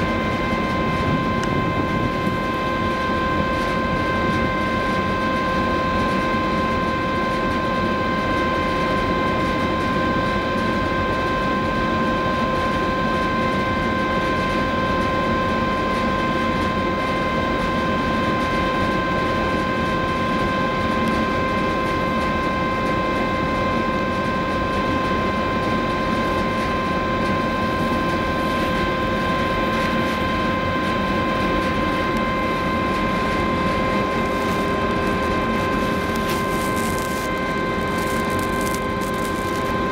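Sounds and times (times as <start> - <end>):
steady machinery whine: 0.0 - 39.9.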